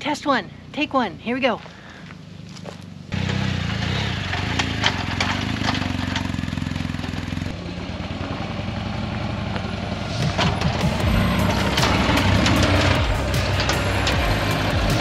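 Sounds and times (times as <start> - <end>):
motorcycle engine at low revs: 1.6 - 15.0.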